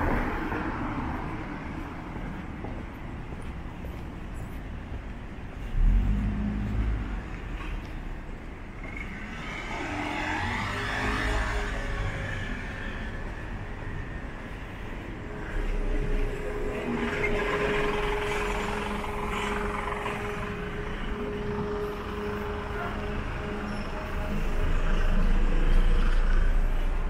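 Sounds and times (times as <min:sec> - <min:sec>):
vehicle engine hum: 0:00.0 - 0:27.0.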